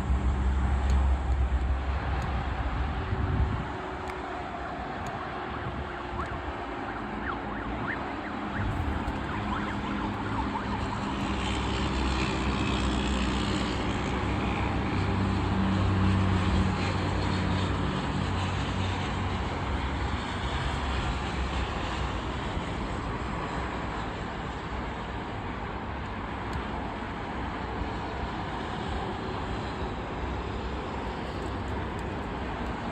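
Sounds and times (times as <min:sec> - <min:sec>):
jet airliner engine noise: 0:00.0 - 0:32.9.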